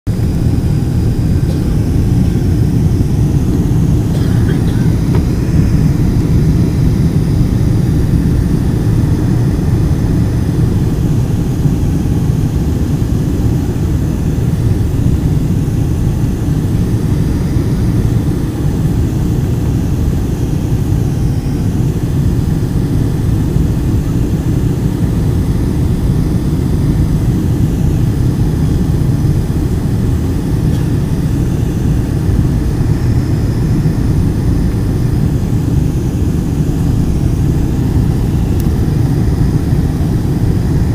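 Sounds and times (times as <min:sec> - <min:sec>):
airplane cabin engine noise: 0:00.1 - 0:40.9.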